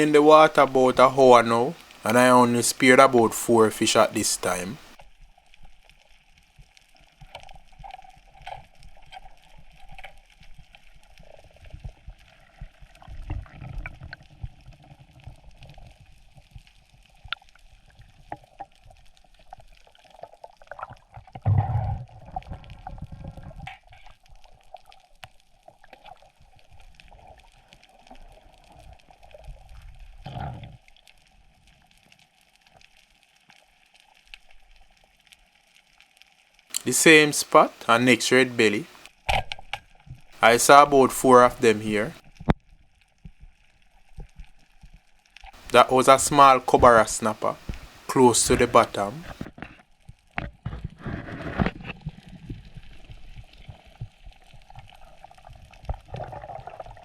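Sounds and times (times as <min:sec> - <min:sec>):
muffled underwater water movement: 0:00.0 - 0:57.0.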